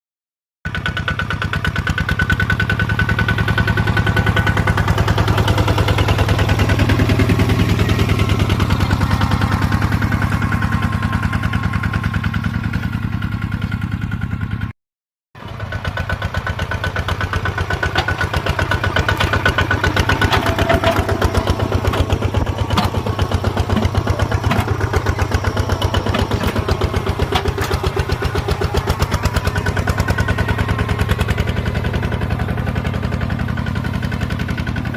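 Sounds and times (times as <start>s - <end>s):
tractor engine chugging: 0.7s - 14.7s, 15.4s - 34.9s.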